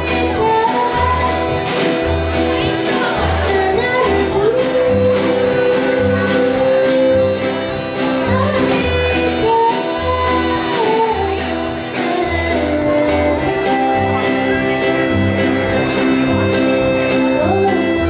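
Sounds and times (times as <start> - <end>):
accordion: 0.0 - 18.0
acoustic guitar: 0.0 - 18.0
upright bass: 0.0 - 18.0.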